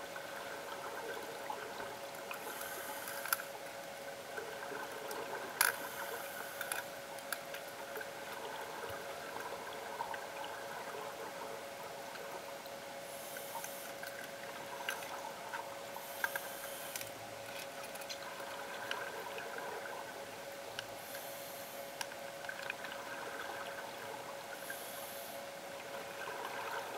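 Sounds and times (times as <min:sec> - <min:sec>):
regulator hiss and bubbling: 0:00.0 - 0:26.9
underwater hum: 0:00.0 - 0:26.9.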